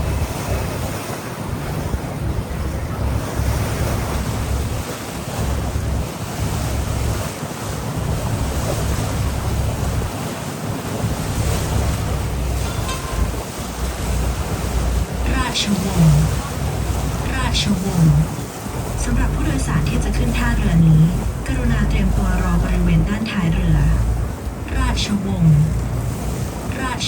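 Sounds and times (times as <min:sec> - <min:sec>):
boat engine rumble: 0:00.0 - 0:27.0
water rushing: 0:00.0 - 0:27.0
wind buffeting microphone: 0:00.0 - 0:27.0.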